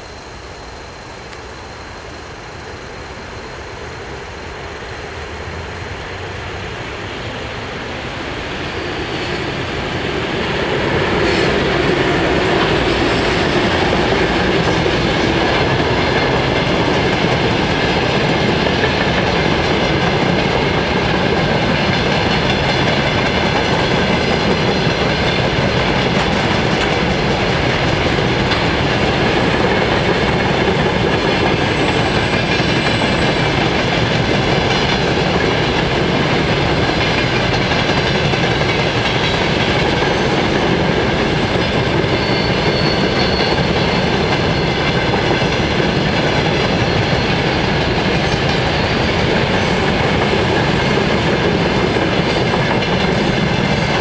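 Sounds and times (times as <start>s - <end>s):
freight train running past: 0.0s - 54.0s.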